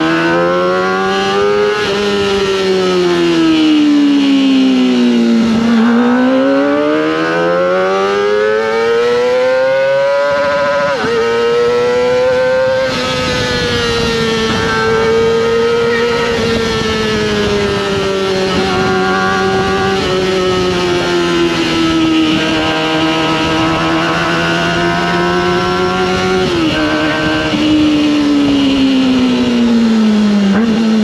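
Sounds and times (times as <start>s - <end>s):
motorcycle engine revving high: 0.0s - 31.0s.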